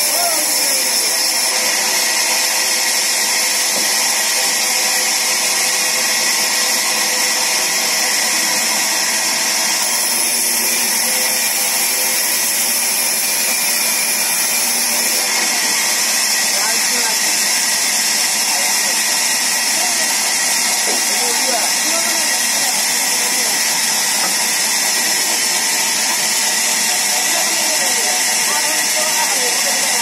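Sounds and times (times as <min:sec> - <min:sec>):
band saw cutting wood: 0:00.0 - 0:30.0.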